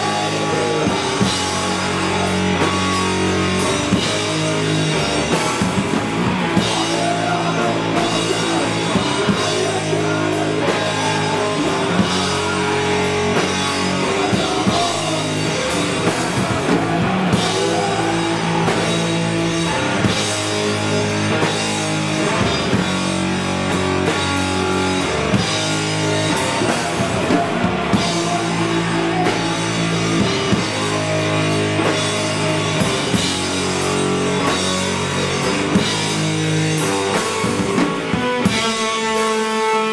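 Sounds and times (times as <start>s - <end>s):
heavy electric guitar chords: 0.0s - 39.9s
pounding drum kit: 0.0s - 39.9s.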